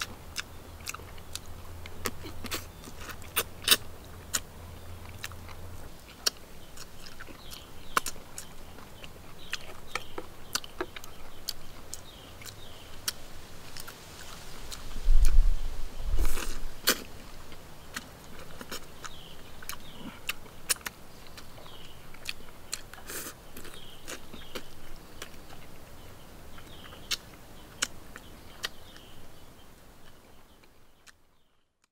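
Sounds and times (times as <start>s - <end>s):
chewing and biting: 0.0s - 15.5s, 16.2s - 29.1s, 30.0s - 31.4s.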